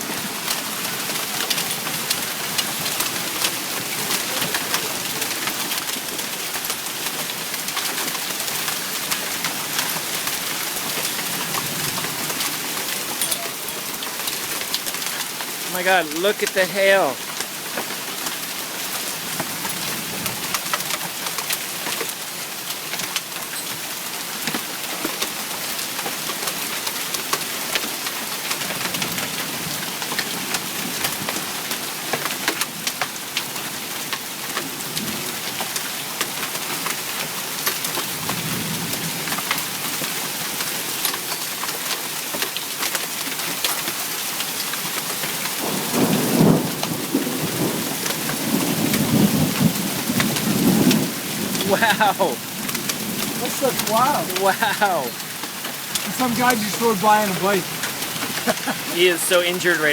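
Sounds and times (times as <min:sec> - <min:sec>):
hail and rain hissing: 0:00.0 - 0:59.9
hailstones ticking on hard surfaces: 0:00.0 - 0:59.9.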